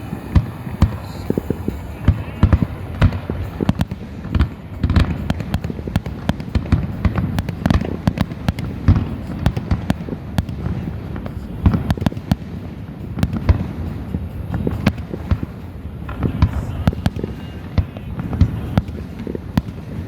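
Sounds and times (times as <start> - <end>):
fireworks bangs and cracks: 0.0 - 20.0
low rumble of fireworks bursts: 0.0 - 20.0.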